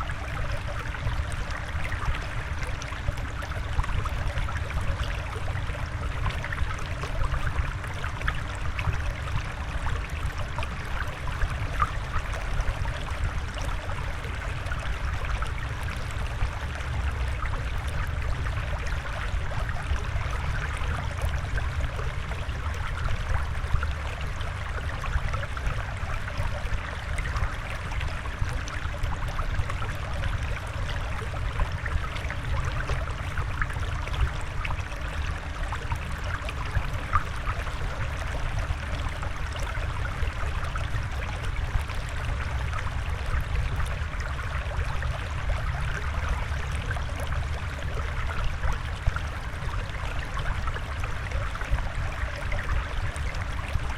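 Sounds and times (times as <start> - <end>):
flowing water: 0.0 - 53.9.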